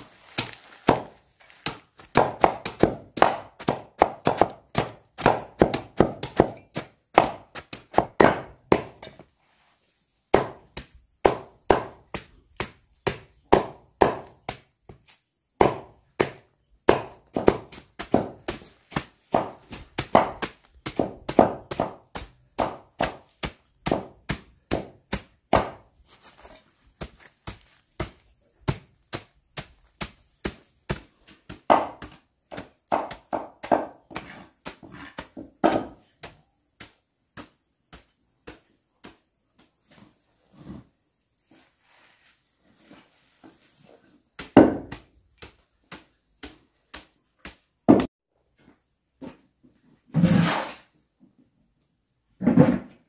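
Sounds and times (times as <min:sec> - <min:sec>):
knife chopping plant stalks: 0:00.0 - 0:09.3, 0:10.3 - 0:40.1, 0:43.5 - 0:48.1.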